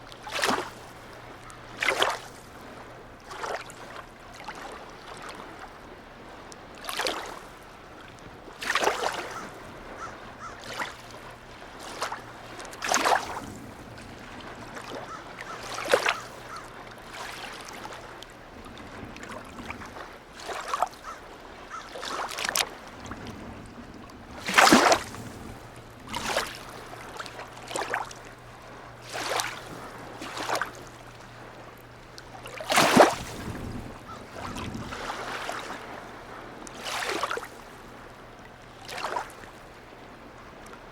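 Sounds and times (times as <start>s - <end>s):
water lapping against hull: 0.0s - 40.9s.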